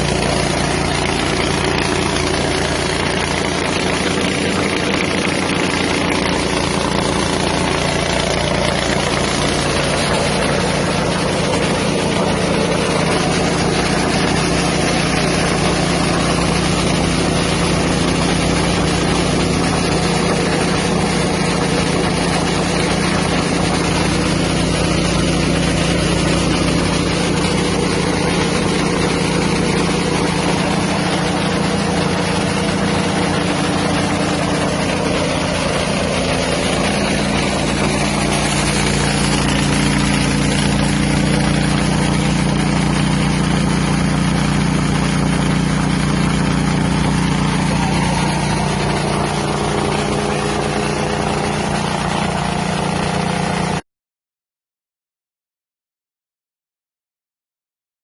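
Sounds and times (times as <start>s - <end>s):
rice huller engine humming: 0.0s - 53.8s.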